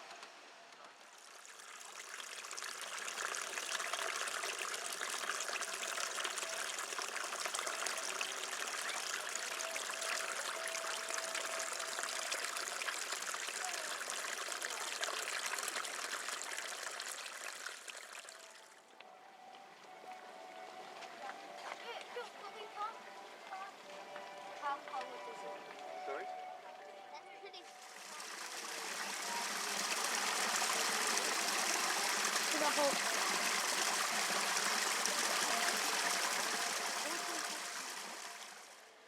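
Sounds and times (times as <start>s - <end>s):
water trickling and splashing: 0.9s - 26.3s, 27.5s - 39.0s.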